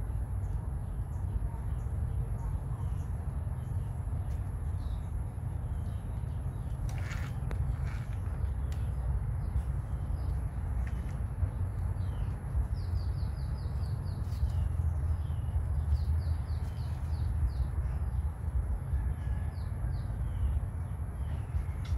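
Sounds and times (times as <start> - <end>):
small birds chirping: 0.0 - 18.6
steady low rumble: 0.0 - 21.9.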